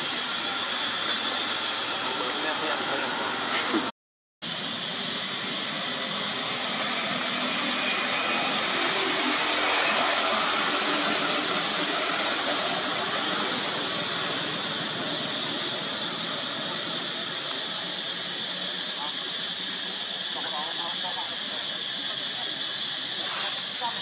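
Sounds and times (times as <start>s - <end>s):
constant high-pitched tone: 0.0s - 24.0s
steady even hiss: 4.5s - 24.0s.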